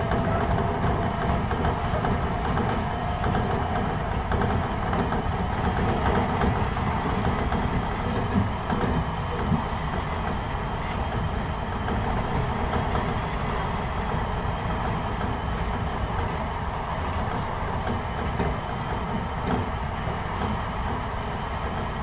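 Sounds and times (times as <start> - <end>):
train wheels on rail: 0.0 - 22.0.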